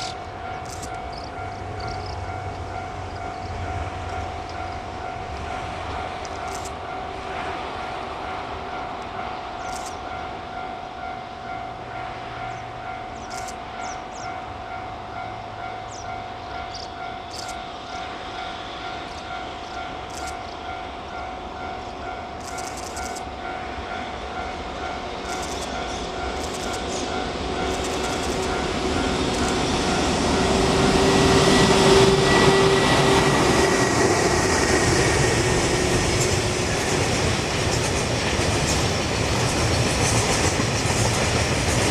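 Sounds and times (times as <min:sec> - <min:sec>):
train passing: 0:00.0 - 0:41.9.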